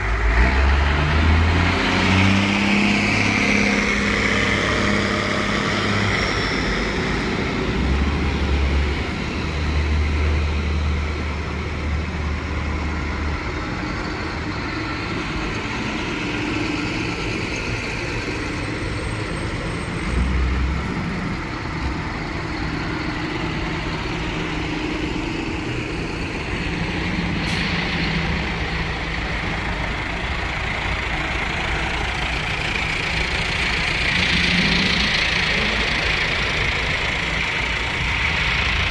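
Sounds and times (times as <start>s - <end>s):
tractor diesel engines: 0.0s - 38.9s.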